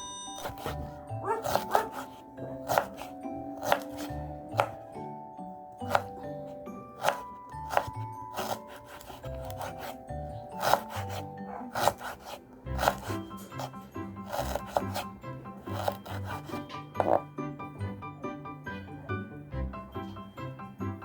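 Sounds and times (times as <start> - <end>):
light plinked melody: 0.0 - 21.0.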